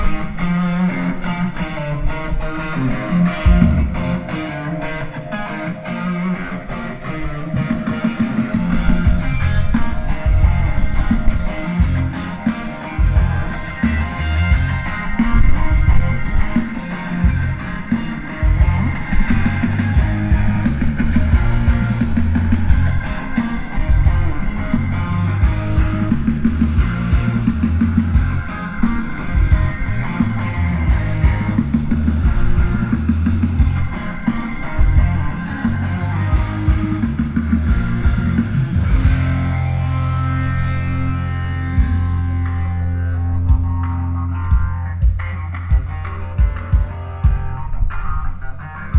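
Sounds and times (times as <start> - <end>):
guitar-led music with bass: 0.0 - 48.9
loud rock band playing: 0.0 - 48.9.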